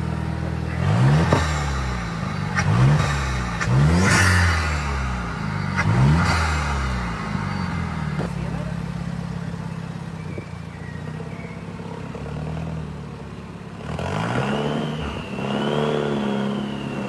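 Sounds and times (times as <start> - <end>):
turbocharged engine revving: 0.0 - 10.4, 13.7 - 17.0.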